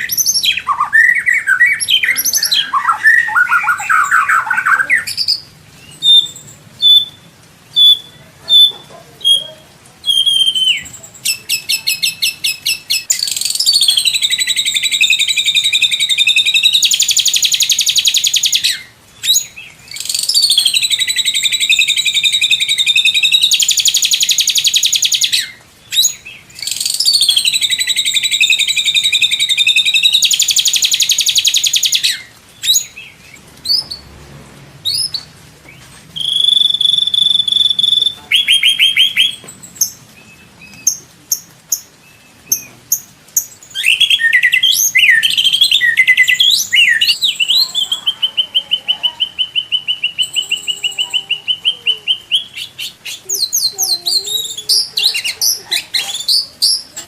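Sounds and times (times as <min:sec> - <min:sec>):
bird singing rapid trills: 0:00.0 - 0:34.1, 0:36.2 - 0:57.0.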